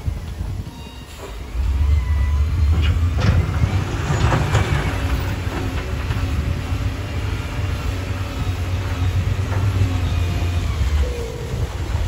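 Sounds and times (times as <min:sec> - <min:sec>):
diesel engine rumbling under load: 0:01.2 - 0:12.0.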